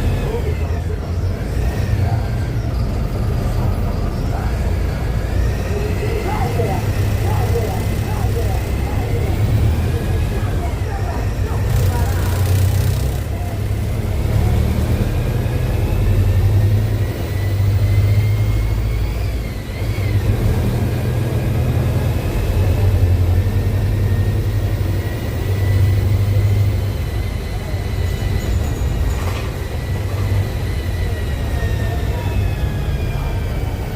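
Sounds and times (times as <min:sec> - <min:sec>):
bus diesel engine drone: 0:00.0 - 0:33.9.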